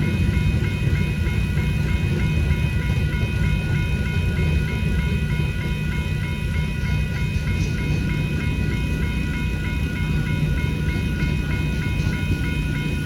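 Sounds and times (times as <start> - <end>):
crossing signal bell ringing: 0.0 - 13.0
freight train cars rumbling past: 0.0 - 13.0.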